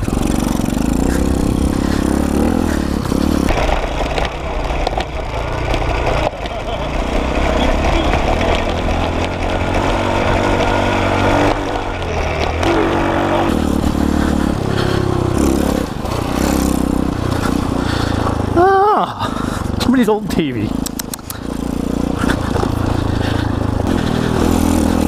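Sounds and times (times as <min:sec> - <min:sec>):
small motorbike engine revving: 0:00.0 - 0:19.9, 0:20.6 - 0:25.0.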